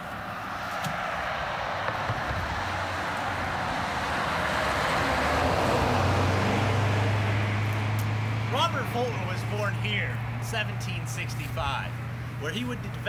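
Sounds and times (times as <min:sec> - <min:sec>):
car tyre noise on road: 0:00.0 - 0:13.0
low engine hum: 0:00.0 - 0:13.0.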